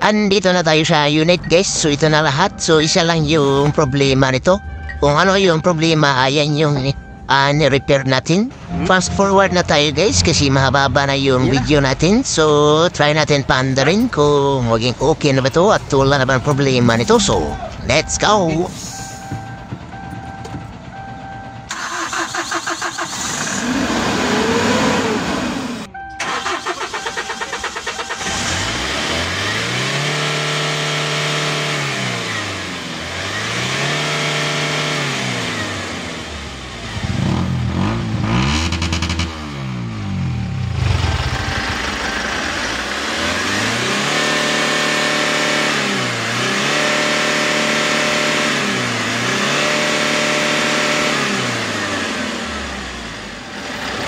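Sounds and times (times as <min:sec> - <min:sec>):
diesel engine starting and revving: 0:00.0 - 0:54.0.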